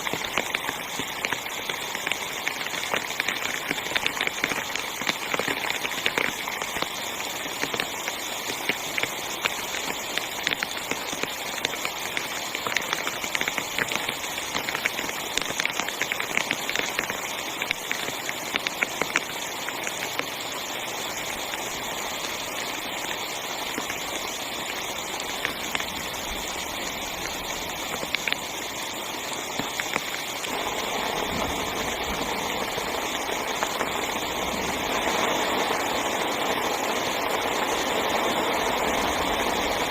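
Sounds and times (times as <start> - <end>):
heavy rain drumming on a tent: 0.0 - 39.9.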